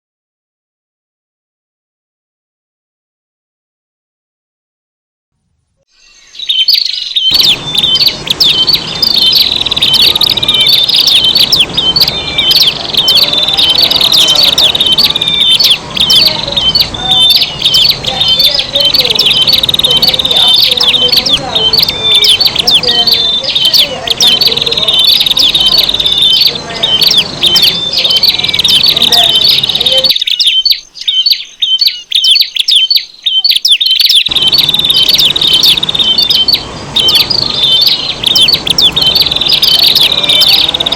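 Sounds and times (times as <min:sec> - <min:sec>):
low background noise: 0:05.4 - 0:40.9
birds chirping rapidly: 0:05.9 - 0:40.9.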